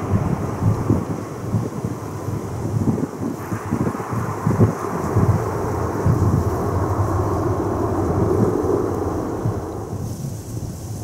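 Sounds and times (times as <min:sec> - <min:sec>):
jet engine noise: 0:00.0 - 0:11.0
wind buffeting microphone: 0:00.0 - 0:11.0.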